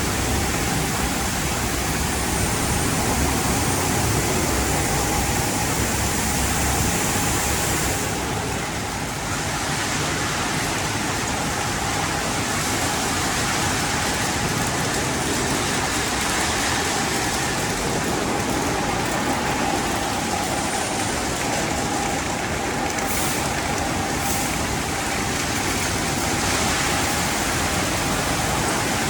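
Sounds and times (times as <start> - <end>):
car wash machinery noise: 0.0 - 29.0.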